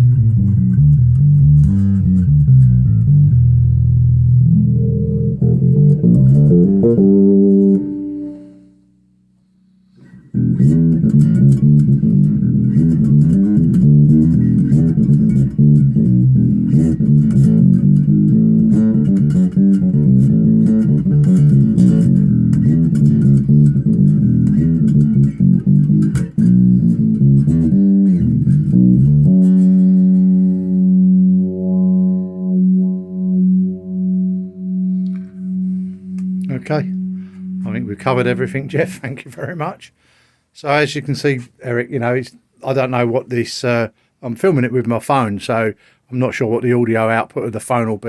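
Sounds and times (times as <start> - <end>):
bass guitar plucked notes: 0.0 - 40.3.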